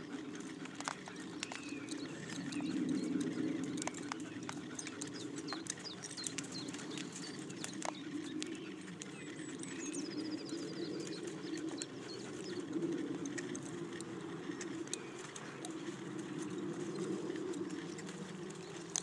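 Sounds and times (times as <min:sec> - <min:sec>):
horse hooves on sand: 0:00.0 - 0:19.0
horse tack noise: 0:00.0 - 0:19.0
small birds chirping: 0:00.0 - 0:19.0.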